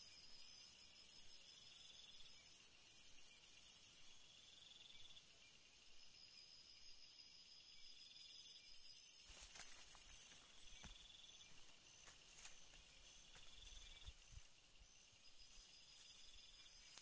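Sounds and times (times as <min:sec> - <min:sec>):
insect high-pitched buzz: 0:00.0 - 0:17.0.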